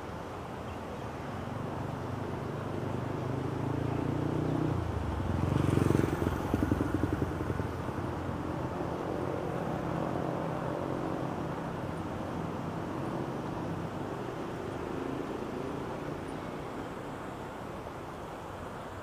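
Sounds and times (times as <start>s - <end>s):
road traffic rumbling: 0.0s - 19.0s
vehicle passing close: 2.1s - 18.3s.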